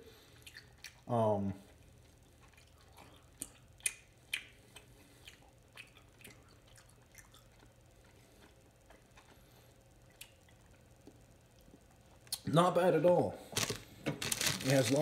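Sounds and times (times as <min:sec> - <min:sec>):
person chewing gummy snacks: 0:00.2 - 0:12.4, 0:13.5 - 0:15.0.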